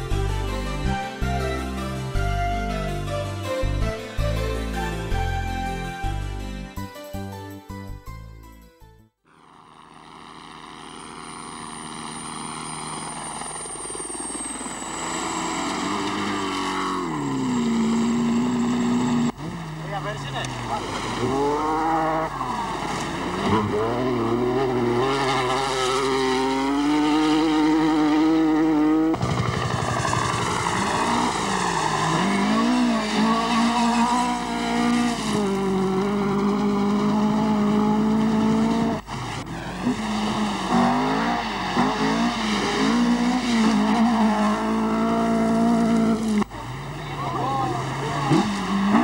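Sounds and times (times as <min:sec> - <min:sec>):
rally car engines revving: 0:09.4 - 0:49.0.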